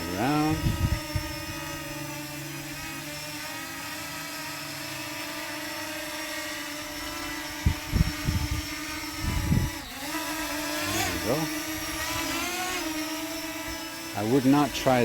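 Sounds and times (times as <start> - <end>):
drone propellers buzzing whine: 0.0 - 15.0.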